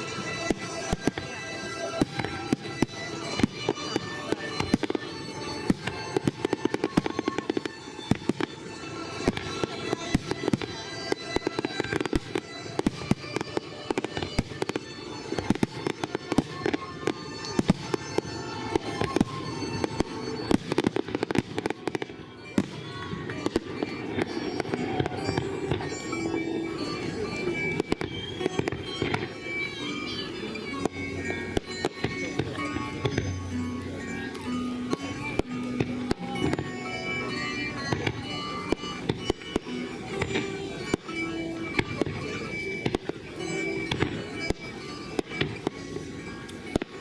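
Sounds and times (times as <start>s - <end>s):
fireworks bangs and crackling: 0.0s - 47.0s
music playing: 0.0s - 47.0s.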